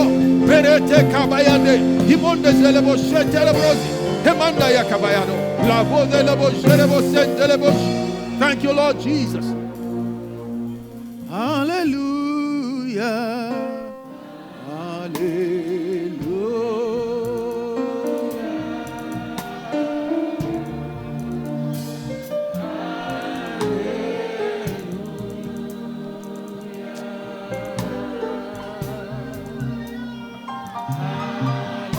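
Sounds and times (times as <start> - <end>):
steady held chords: 0.0 - 31.9.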